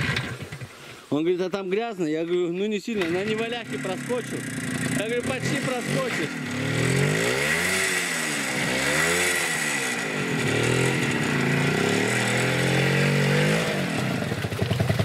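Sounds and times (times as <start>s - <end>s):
motorcycle engine revving: 0.0s - 0.8s, 3.0s - 15.0s.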